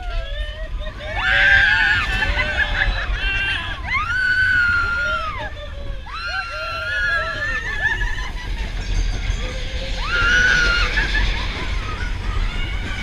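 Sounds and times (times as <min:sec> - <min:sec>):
riders screaming and whooping: 0:00.0 - 0:13.0
roller coaster rumbling on track: 0:00.0 - 0:13.0.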